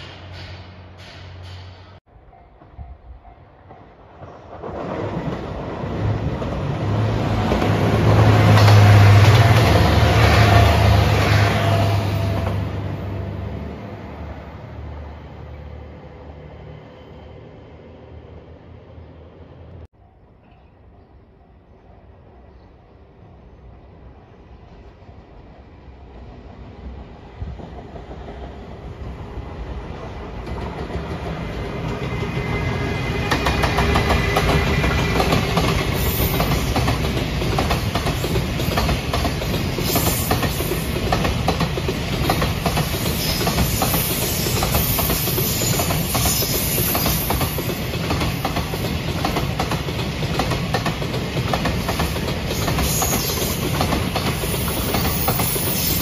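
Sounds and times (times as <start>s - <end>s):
freight train rumble and wheel noise: 0.0s - 16.8s, 20.8s - 56.0s.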